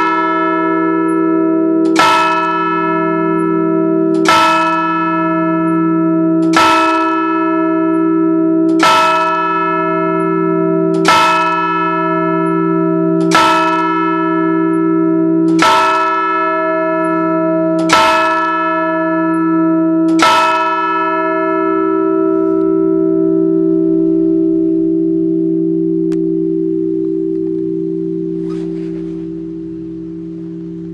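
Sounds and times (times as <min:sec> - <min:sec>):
church bells ringing: 0:00.0 - 0:30.9
lingering bell hum: 0:00.0 - 0:30.9.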